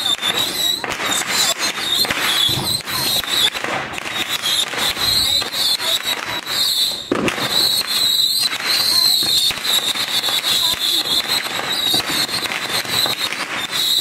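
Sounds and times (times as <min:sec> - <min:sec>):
firework pops and crackles: 0:00.0 - 0:14.0
whistling rockets: 0:00.0 - 0:14.0.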